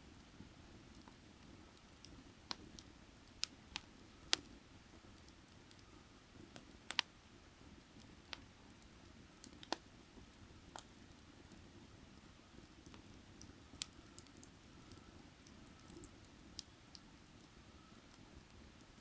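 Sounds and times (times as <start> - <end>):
firewood crackling and popping: 0.2 - 19.0.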